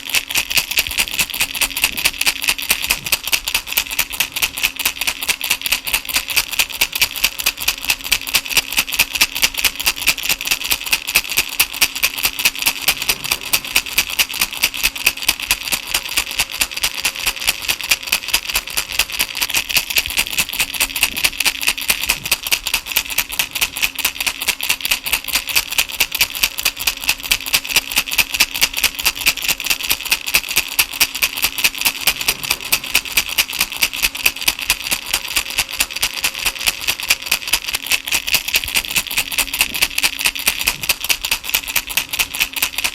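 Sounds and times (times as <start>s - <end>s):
baby rattle shaken: 0.0s - 42.9s.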